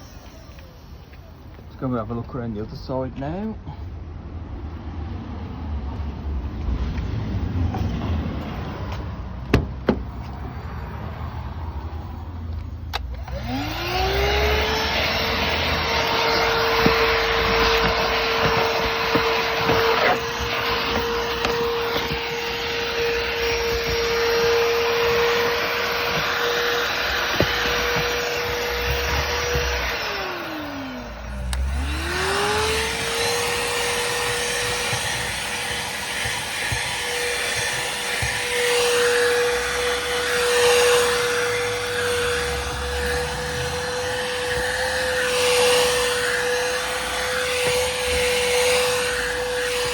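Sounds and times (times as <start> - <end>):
handheld vacuum whining: 0.0 - 2.8, 7.7 - 49.9.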